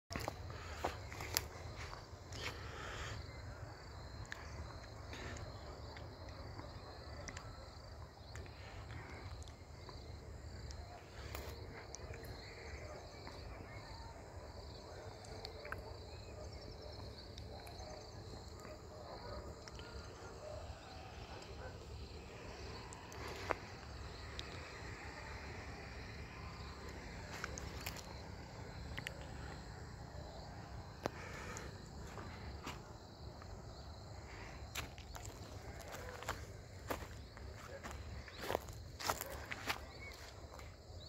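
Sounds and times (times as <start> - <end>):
insects chirping: 0.1 - 41.0.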